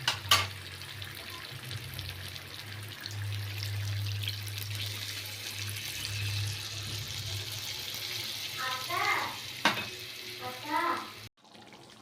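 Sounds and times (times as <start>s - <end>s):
water pouring into pan: 1.9s - 12.0s.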